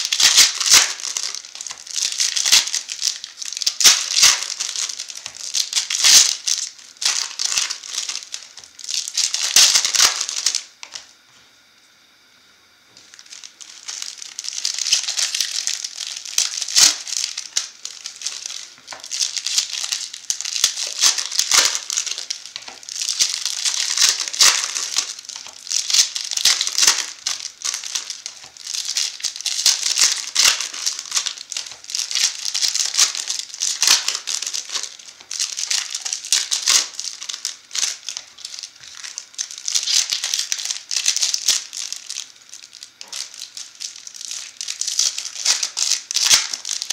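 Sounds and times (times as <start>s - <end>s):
foil wrappers crinkling: 0.0s - 11.0s, 13.0s - 46.9s.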